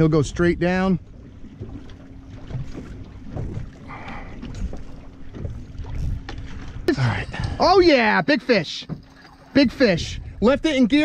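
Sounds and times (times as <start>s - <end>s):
boat motor idling: 0.0s - 11.0s
water rumble: 0.0s - 11.0s
wind: 0.0s - 11.0s.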